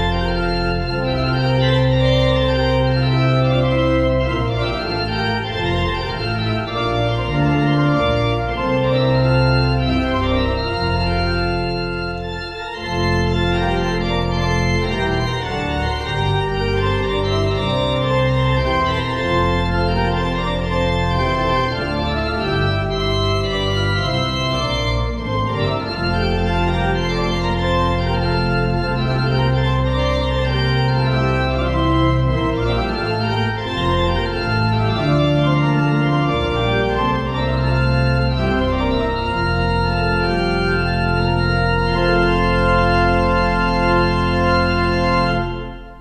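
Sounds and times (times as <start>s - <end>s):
church organ playing chords: 0.0s - 46.0s.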